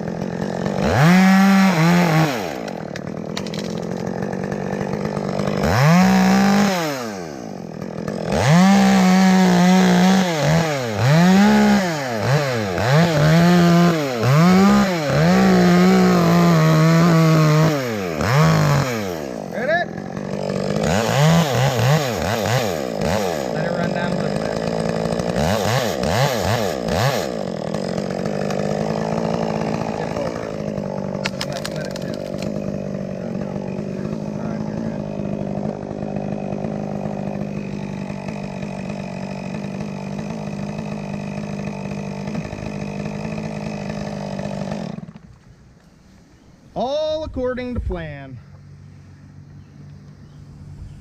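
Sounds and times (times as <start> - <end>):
chainsaw revving and cutting wood: 0.0 - 45.7, 46.8 - 50.8.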